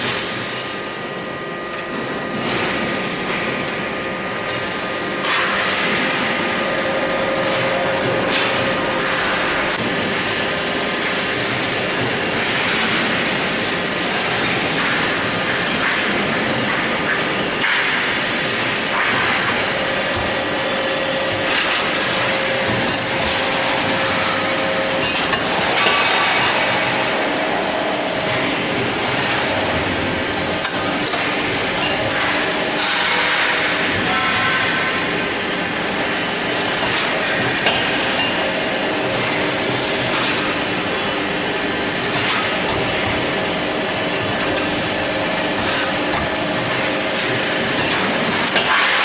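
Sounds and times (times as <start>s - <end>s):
punching machine hum and hiss: 0.0s - 49.0s.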